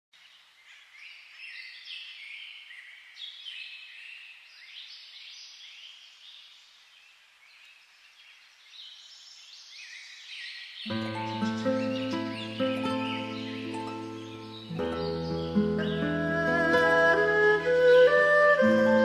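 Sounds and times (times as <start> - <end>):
chorus of birds chirping: 0.2 - 19.0.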